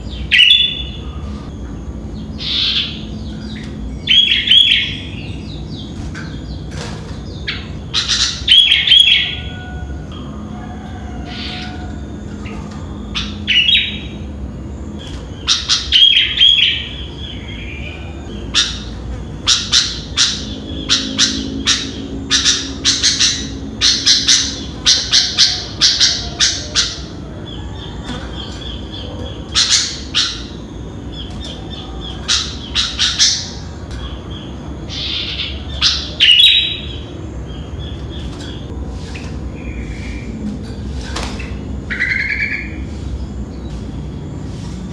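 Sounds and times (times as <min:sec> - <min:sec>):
bird chirping: 0:00.0 - 0:40.4.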